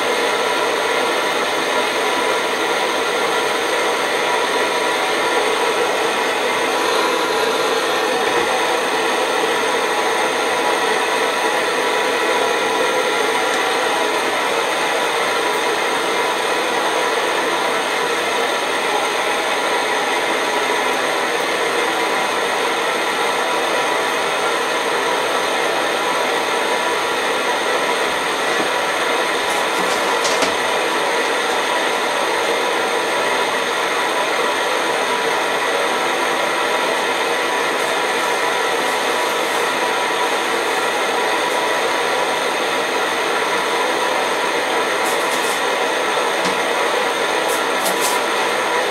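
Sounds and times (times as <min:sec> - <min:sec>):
pressure stove burner roaring: 0:00.0 - 0:48.9.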